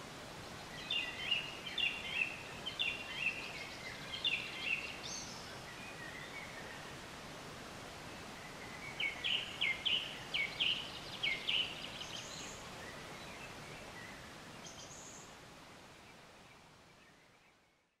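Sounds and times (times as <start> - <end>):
songbird singing: 0.0 - 7.2, 7.8 - 18.0
steady hiss: 0.0 - 17.8.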